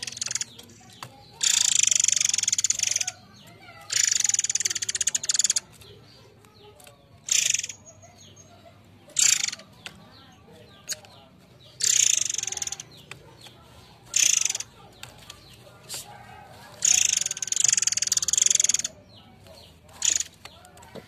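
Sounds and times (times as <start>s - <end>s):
bird harsh rattling calls: 0.0s - 21.0s
faint bird chirps: 0.0s - 21.0s.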